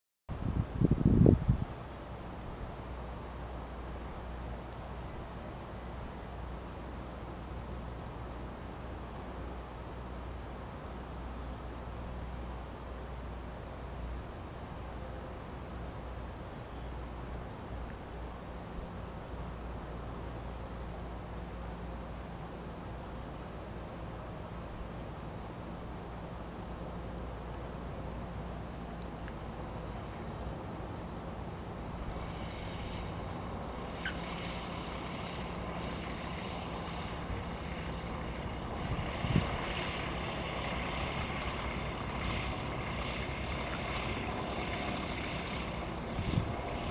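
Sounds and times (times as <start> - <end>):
crickets trilling: 0.3 - 46.9.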